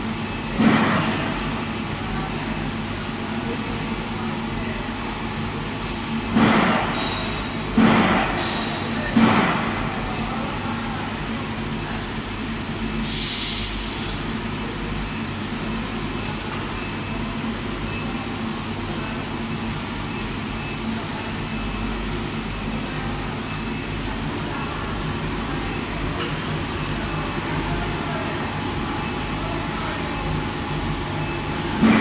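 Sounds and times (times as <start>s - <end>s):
machinery humming: 0.0s - 32.0s.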